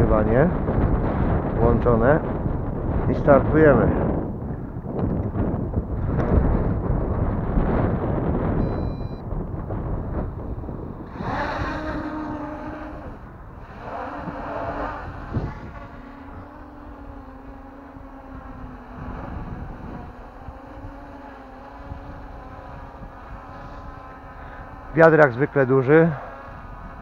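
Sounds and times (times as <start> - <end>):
drone propellers humming: 0.0 - 27.0
wind buffeting microphone: 0.0 - 27.0.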